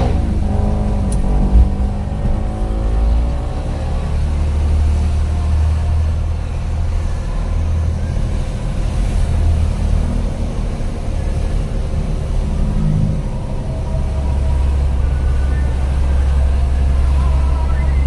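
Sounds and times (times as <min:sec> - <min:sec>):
vehicle engine drone and road noise: 0:00.0 - 0:18.0.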